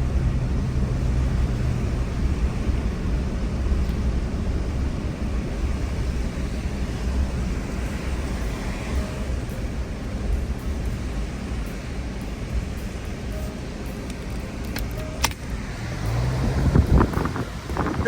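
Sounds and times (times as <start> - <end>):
vehicle driving on sand: 0.0 - 18.0.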